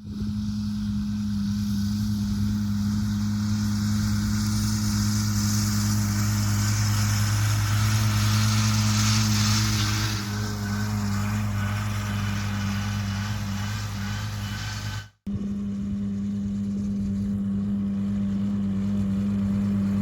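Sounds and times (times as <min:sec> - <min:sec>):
tractor diesel engine humming: 0:00.0 - 0:20.0.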